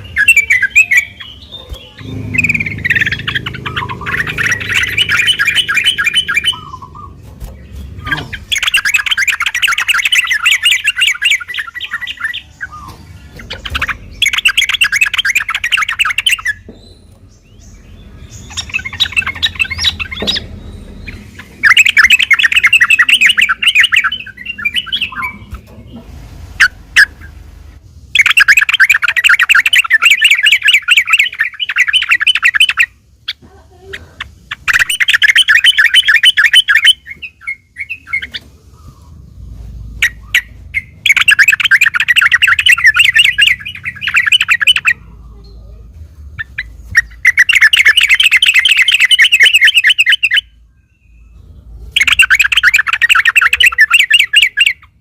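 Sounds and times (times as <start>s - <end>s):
bird singing fast trills: 0.0s - 25.7s, 28.1s - 33.3s, 34.2s - 38.4s, 39.2s - 55.0s.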